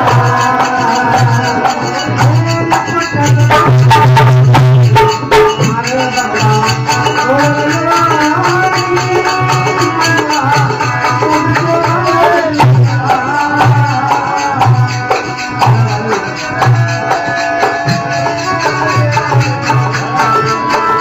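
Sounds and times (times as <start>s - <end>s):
rattling percussion: 0.0s - 21.0s.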